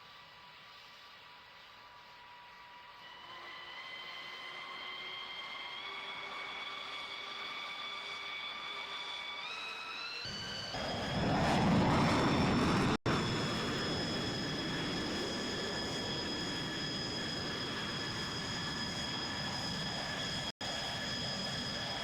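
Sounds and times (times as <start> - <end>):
airplane engines running: 0.0 - 22.0
high engine whine: 1.4 - 22.0.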